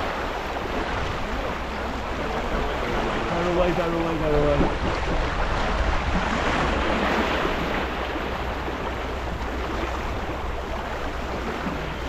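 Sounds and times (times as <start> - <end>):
water rushing along boat hull: 0.0 - 12.0
wind noise on microphone: 0.0 - 12.0.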